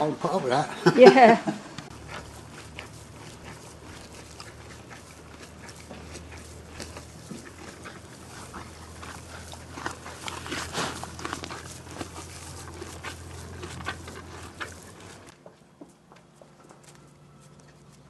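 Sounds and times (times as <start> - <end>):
pony crunching dry hay: 1.9 - 18.0.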